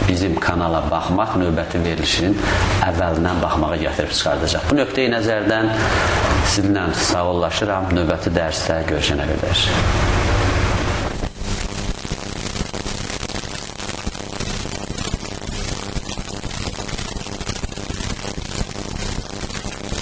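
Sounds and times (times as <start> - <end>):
static hiss: 0.0 - 20.0
studio audio: 0.0 - 20.0.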